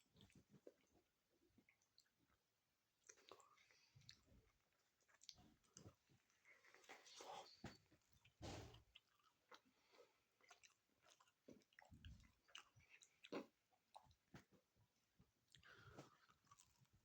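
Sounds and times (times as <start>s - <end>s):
chewing sandwich: 0.0s - 17.0s.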